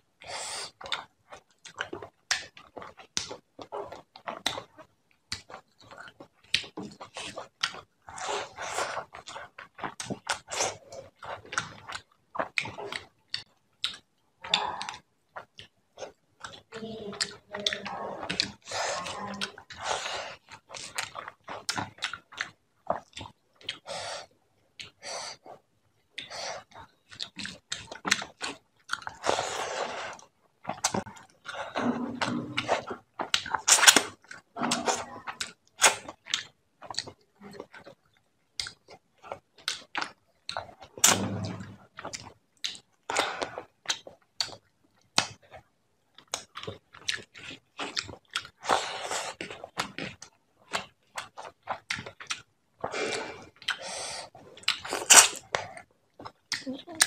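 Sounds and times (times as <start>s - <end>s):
chewing and lip smacks: 0.2s - 57.0s.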